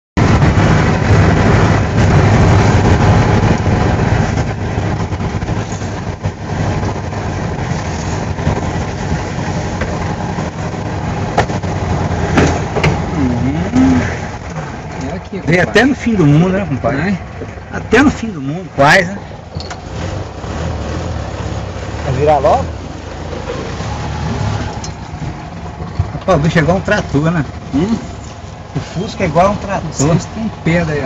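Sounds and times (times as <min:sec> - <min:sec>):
car engine running under load: 0:00.2 - 0:31.0.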